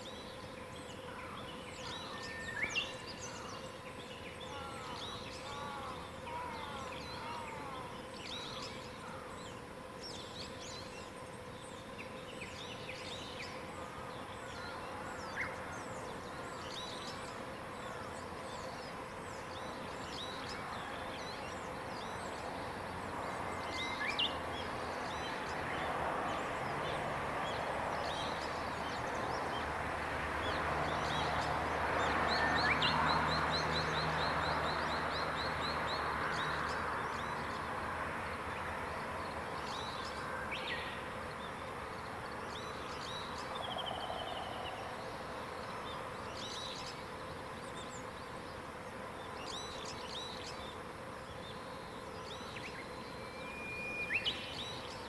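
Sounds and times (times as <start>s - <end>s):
songbirds singing and calling: 0.0s - 55.0s.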